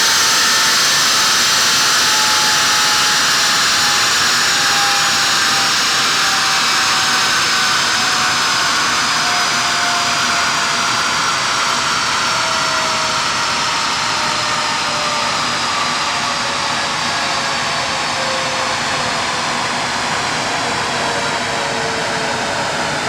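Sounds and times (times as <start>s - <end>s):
car on dyno rushing: 0.0s - 23.0s
whining tones falling in pitch: 0.1s - 23.0s.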